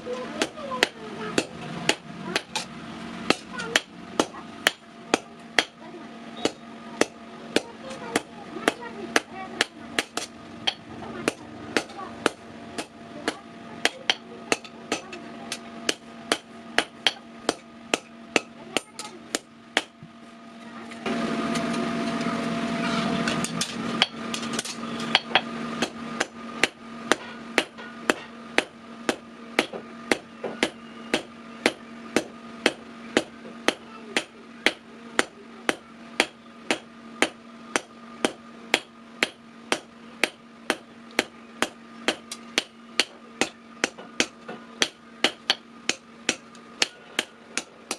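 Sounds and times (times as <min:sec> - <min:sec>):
hammer striking steel on anvil: 0:00.4 - 0:05.8, 0:06.4 - 0:20.0, 0:22.8 - 0:47.9.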